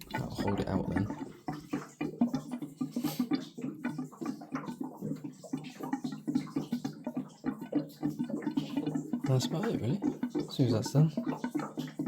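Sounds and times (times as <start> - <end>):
water gurgling through valve: 0.0 - 12.0.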